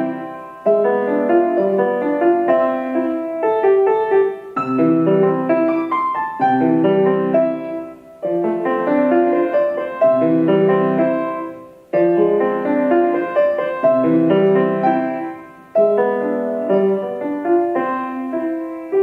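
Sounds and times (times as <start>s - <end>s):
solo piano piece: 0.0s - 19.0s.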